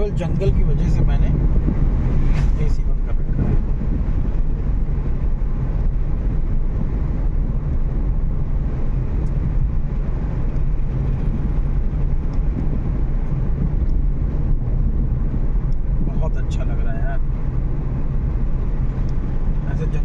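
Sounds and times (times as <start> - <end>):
car engine noise inside cabin: 0.0 - 20.0
tyres on the road: 0.0 - 20.0.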